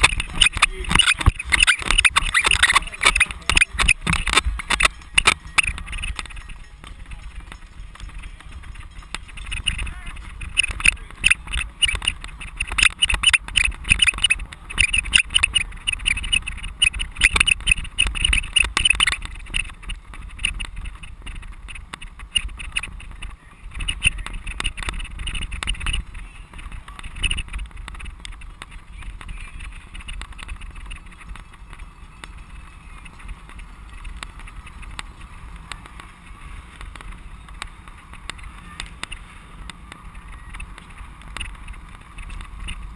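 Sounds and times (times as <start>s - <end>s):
bicycle rattling and clattering: 0.0s - 42.9s
tyre and wind rumble: 0.0s - 42.9s.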